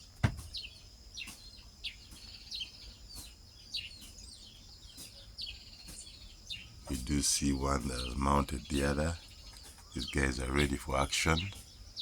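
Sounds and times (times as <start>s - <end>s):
bird chicks chirping: 0.0s - 12.0s.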